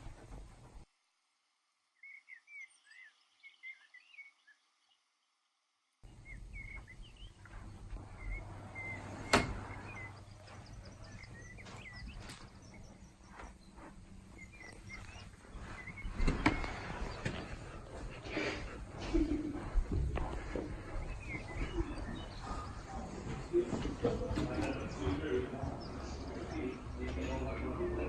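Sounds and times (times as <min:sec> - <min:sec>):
small birds chirping: 0:01.9 - 0:28.0.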